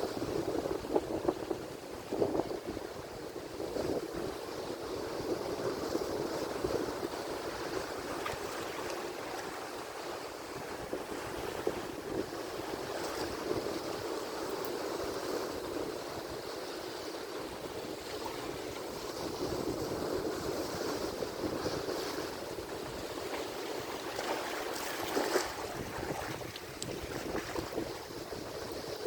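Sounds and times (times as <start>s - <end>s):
ocean waves breaking: 1.8s - 29.0s.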